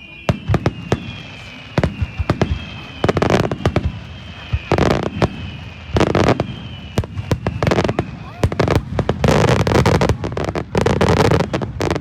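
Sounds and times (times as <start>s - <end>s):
firework bursts and booms: 0.0s - 12.0s
fireworks crackling: 0.0s - 12.0s.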